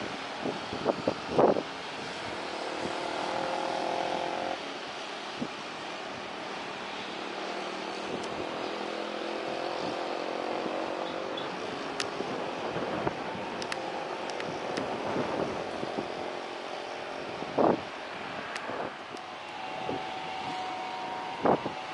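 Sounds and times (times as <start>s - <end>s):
vehicles passing on road: 0.0s - 21.9s
wind noise: 0.0s - 21.9s.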